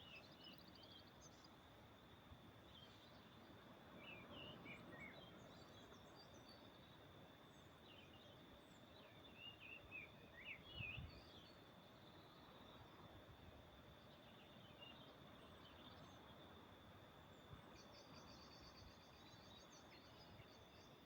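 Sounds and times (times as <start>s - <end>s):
faint high insect hum: 0.0s - 21.0s
songbirds twittering: 0.0s - 21.0s.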